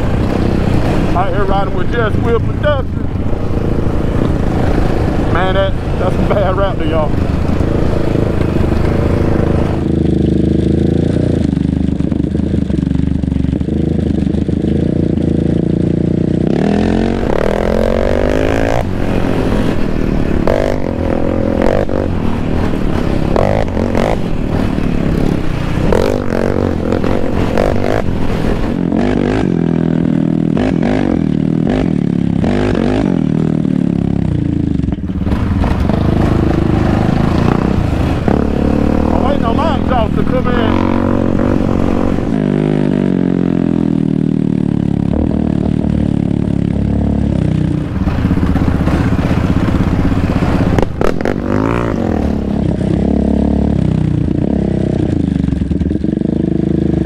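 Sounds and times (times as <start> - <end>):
atv engine revving: 0.0 - 57.0
knocks and rattles over rough dirt: 0.0 - 57.0.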